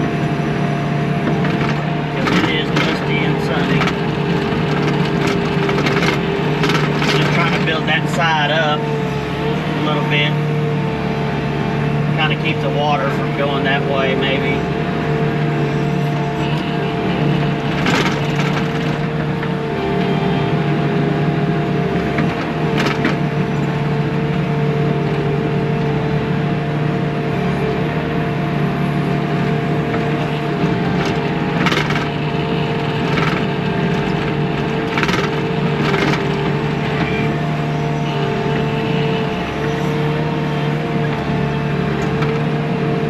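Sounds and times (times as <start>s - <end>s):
diesel loader engine running: 0.0s - 43.0s.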